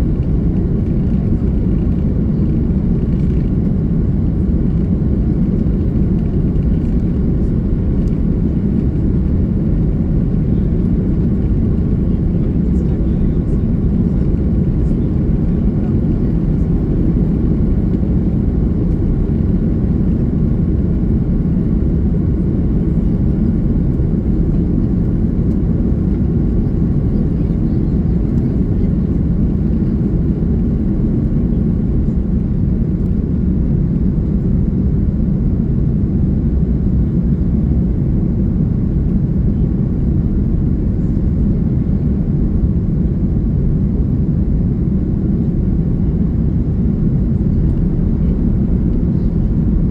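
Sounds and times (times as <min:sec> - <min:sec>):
jet engine and airflow noise: 0:00.0 - 0:49.9.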